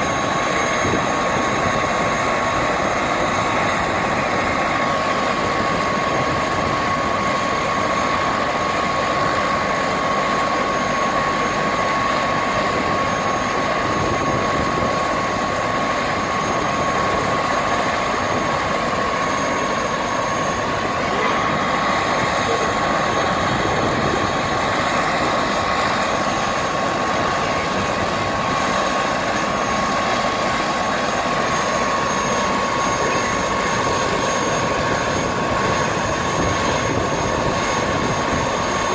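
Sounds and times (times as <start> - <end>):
helicopter rotor and engine: 0.0 - 38.9
high-pitched whine: 0.0 - 38.9.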